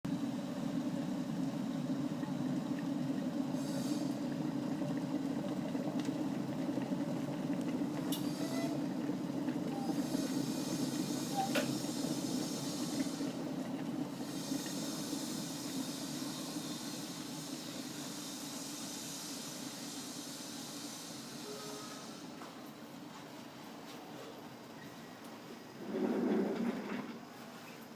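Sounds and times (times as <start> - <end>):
water boiling in a pot: 0.1 - 27.9.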